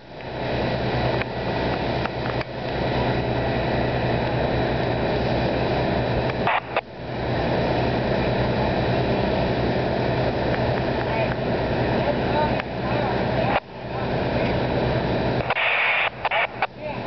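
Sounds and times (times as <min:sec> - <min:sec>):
engine drone with rushing noise: 0:00.0 - 0:17.0.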